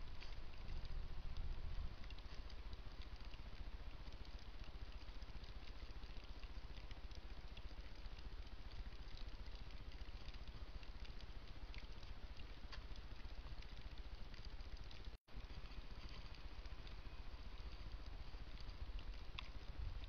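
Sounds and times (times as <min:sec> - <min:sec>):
faint ticks: 0:00.0 - 0:20.0
microphone hiss and low rumble: 0:00.0 - 0:20.0.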